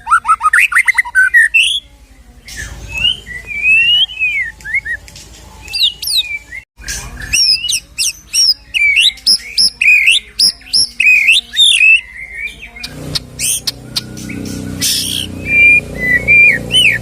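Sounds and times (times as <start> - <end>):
bird singing whistled notes: 0.0 - 17.0.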